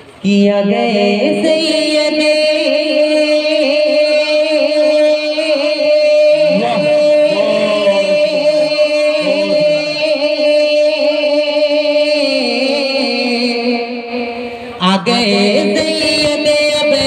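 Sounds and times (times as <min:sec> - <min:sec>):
lower male voice singing along: 0:00.2 - 0:17.0
man singing through pa system: 0:00.2 - 0:17.0.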